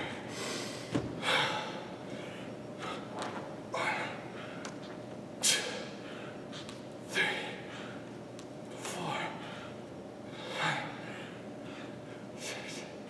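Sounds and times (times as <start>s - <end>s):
man breathing hard: 0.0s - 4.6s, 5.4s - 8.1s, 9.0s - 13.0s.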